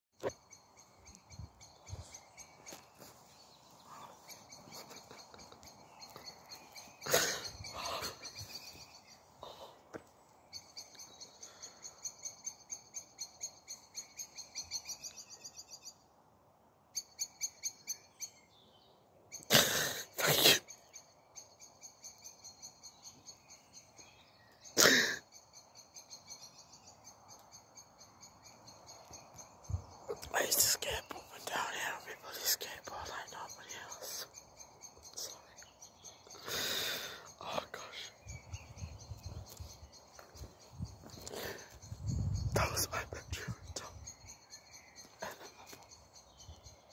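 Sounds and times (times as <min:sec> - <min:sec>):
small bird chirping: 0:00.2 - 0:16.1, 0:16.9 - 0:19.6, 0:20.2 - 0:46.9.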